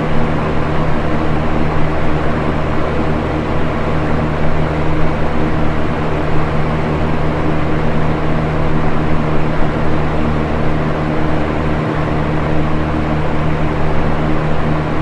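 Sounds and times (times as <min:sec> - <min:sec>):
box fan air rushing: 0:00.0 - 0:15.0
low motor hum: 0:00.0 - 0:15.0.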